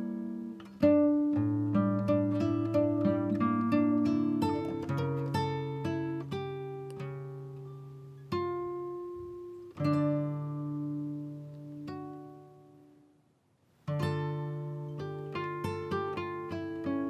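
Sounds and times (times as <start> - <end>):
acoustic guitar plucked notes: 0.0 - 13.1, 13.9 - 17.0.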